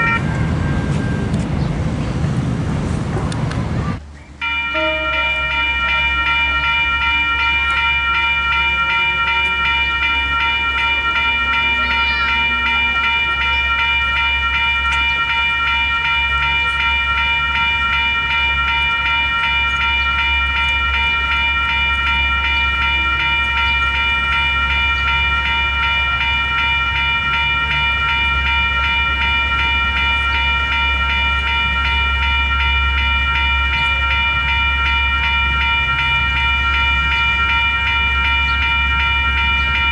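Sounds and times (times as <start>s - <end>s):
level crossing bells ringing: 0.0s - 1.4s, 4.4s - 39.9s.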